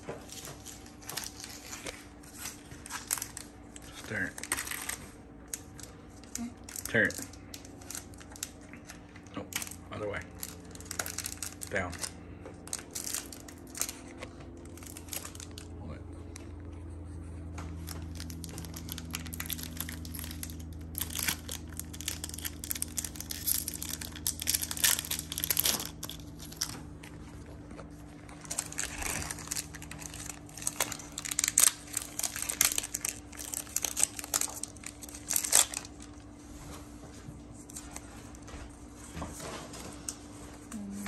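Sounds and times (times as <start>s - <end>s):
foil wrappers crinkling and tearing: 0.1s - 16.5s, 17.7s - 36.4s.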